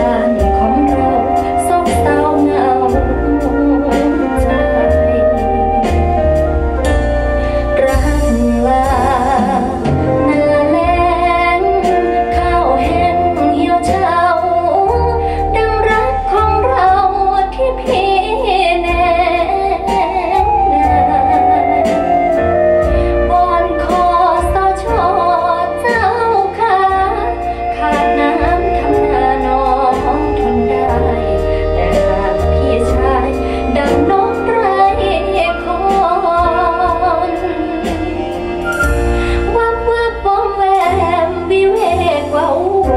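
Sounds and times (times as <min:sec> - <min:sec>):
woman singing with vibrato: 0:00.0 - 0:06.5, 0:07.5 - 0:42.9
instrumental backing with bass: 0:00.0 - 0:42.9.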